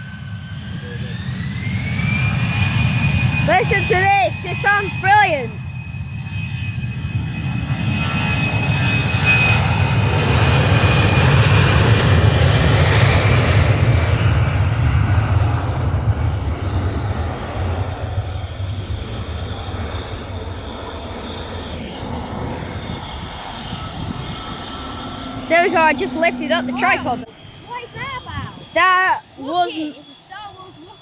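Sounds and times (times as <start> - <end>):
high engine whine: 0.0 - 31.0
jet engines at takeoff: 0.0 - 31.0.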